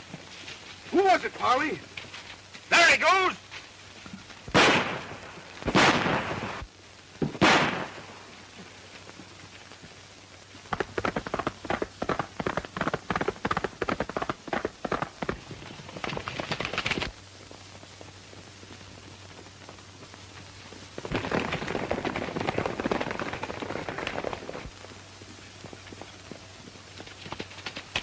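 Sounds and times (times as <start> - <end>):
horses galloping on hard ground: 0.0 - 4.6, 8.5 - 28.0
old film soundtrack hiss: 0.0 - 28.0.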